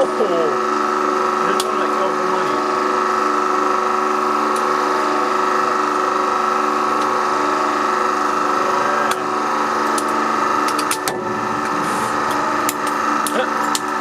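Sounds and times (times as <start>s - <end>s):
hydraulic pump humming and whining: 0.0s - 14.0s.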